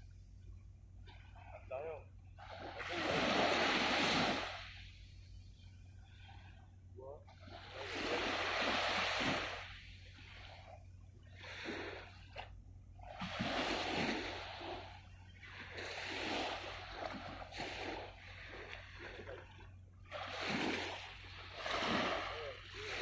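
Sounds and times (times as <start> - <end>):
small waves lapping shore: 0.8 - 23.0.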